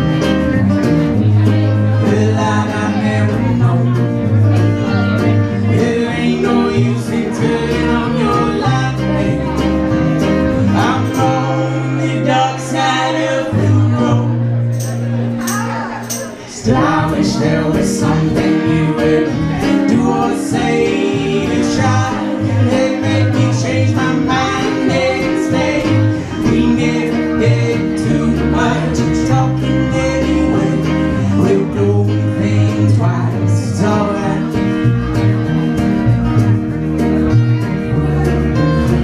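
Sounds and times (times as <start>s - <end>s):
country guitar with singing: 0.0s - 39.0s.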